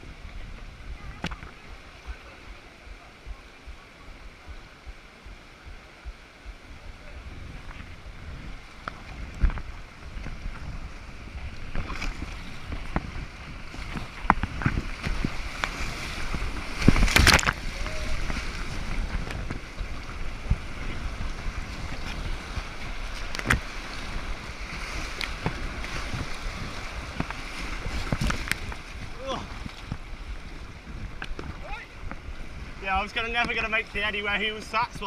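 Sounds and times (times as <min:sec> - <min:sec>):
rushing river water: 0:00.0 - 0:35.0
kayak splashes and knocks: 0:00.2 - 0:35.0.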